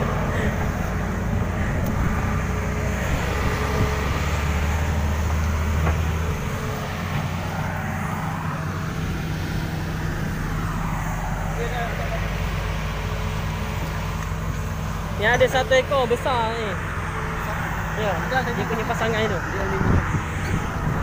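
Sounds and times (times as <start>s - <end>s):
heavy machine engine droning: 0.0s - 21.0s.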